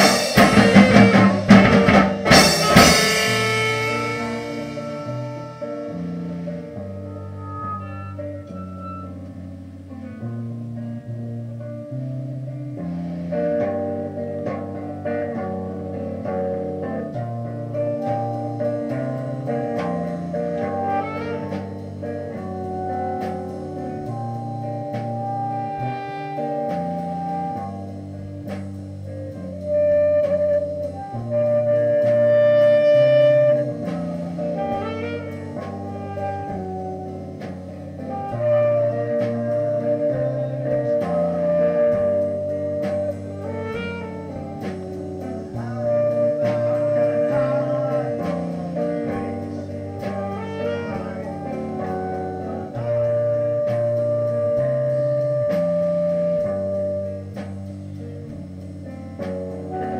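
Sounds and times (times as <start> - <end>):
band playing live: 0.0 - 59.9
drum kit steady beat: 0.0 - 59.9.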